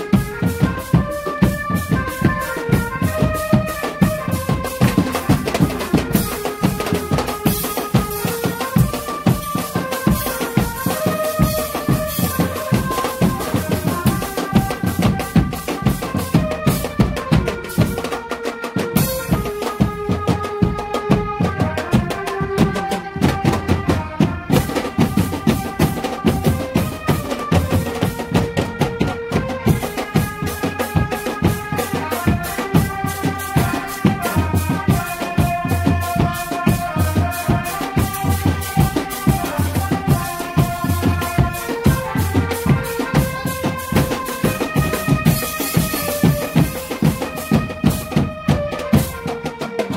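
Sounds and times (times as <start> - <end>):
drums beating fast: 0.0 - 49.9.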